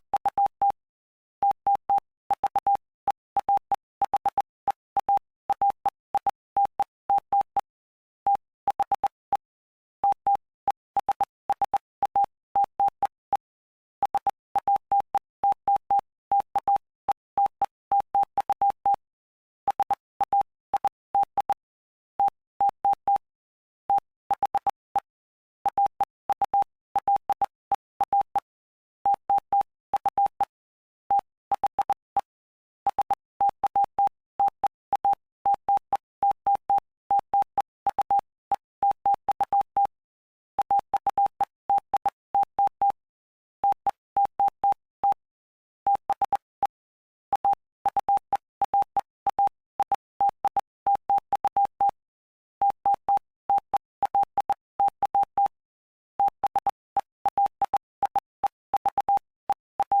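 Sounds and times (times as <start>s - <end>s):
morse code beep tone: 1.4s - 7.7s, 8.3s - 19.1s, 19.7s - 23.3s, 23.9s - 32.3s, 32.9s - 40.0s, 40.6s - 45.3s, 45.9s - 52.0s, 52.6s - 55.6s, 56.2s - 60.0s.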